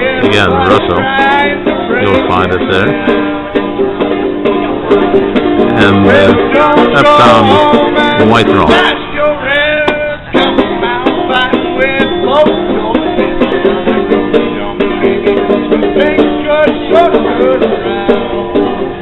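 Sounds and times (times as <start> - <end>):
man singing: 0.0 - 3.4, 5.7 - 19.0
banjo playing: 0.0 - 19.0.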